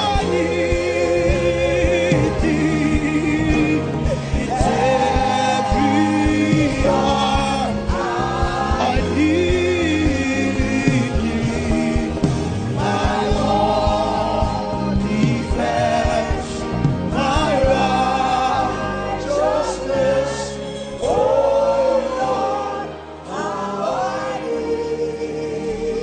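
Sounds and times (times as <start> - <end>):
choir singing gospel song: 0.0 - 26.0
musical accompaniment: 0.0 - 26.0.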